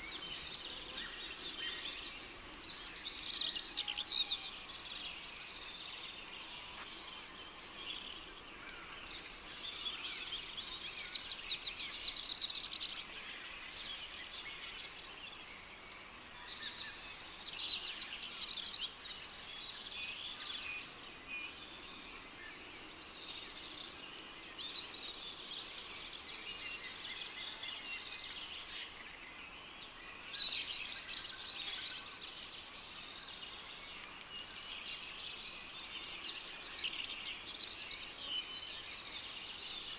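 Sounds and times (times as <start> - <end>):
bird calls and trills: 0.0 - 39.9.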